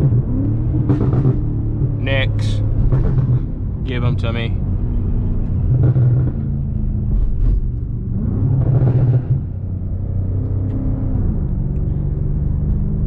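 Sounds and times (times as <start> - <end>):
car engine revving: 0.0 - 13.0
road rumble: 0.0 - 13.0.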